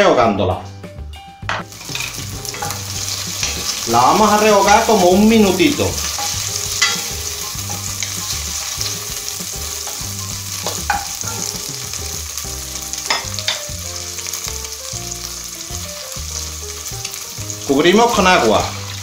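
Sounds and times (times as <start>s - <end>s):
prawns sizzling in oil: 1.6s - 19.0s.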